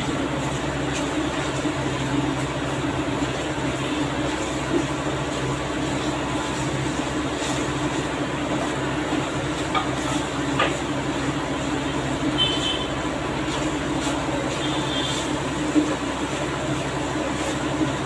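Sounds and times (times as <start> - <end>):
cooktop hum and hiss: 0.0 - 18.0.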